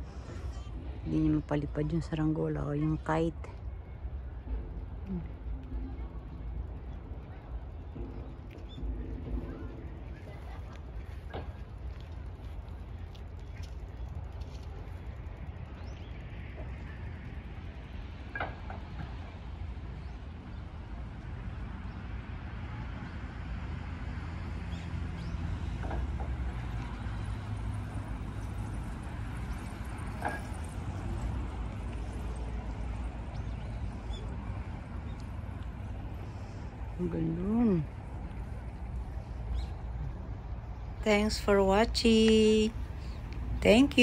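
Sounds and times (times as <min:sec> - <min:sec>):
faint distant sounds: 0:00.0 - 0:44.0.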